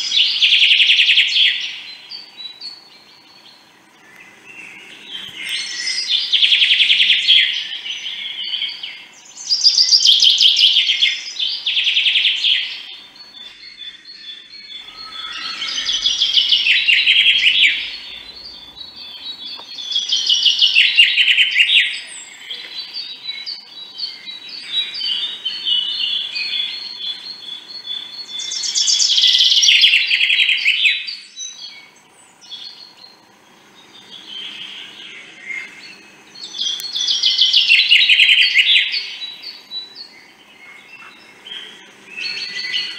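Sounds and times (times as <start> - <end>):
songbird trilling: 0.0 - 33.2, 33.8 - 42.9.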